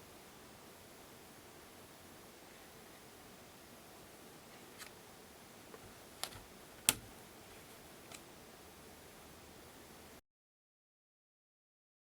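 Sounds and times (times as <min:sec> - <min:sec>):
room hiss: 0:00.0 - 0:10.2.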